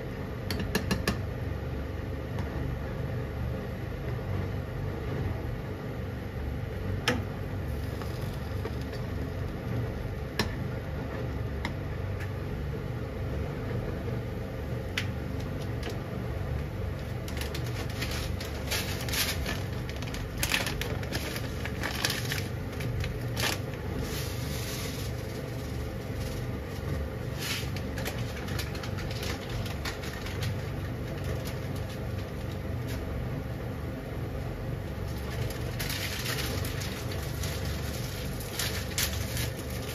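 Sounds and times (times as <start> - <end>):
water boiling rumble: 1.3 - 39.9.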